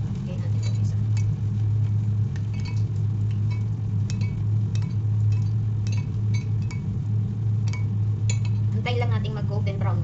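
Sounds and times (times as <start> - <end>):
fritters frying in hot oil: 0.0 - 10.0
low hum: 0.0 - 10.0.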